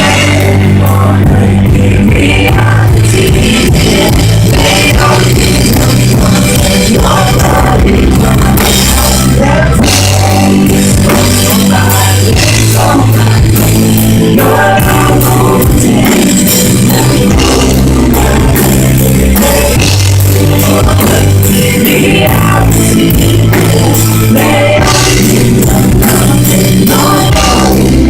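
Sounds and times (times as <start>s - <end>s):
worship band music: 0.0s - 28.0s.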